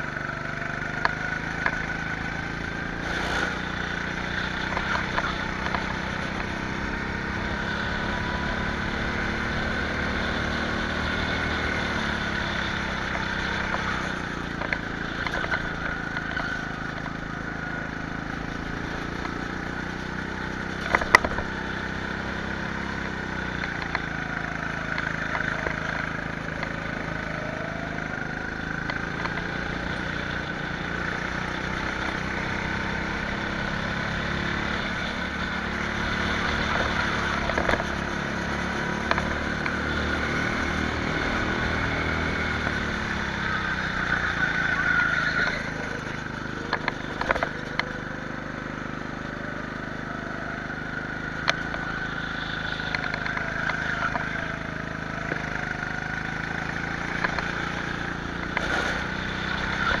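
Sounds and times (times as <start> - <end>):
go-kart engine running: 0.0 - 60.0.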